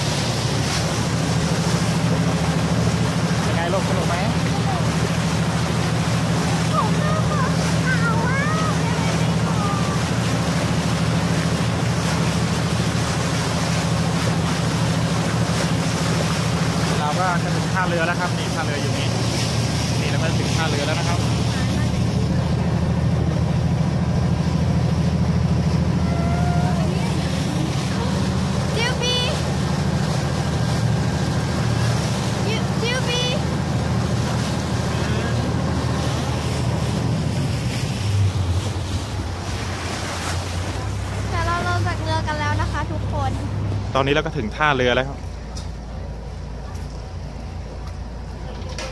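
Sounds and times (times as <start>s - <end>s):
ferry engine droning: 0.0s - 48.9s
water rushing past hull: 0.0s - 48.9s.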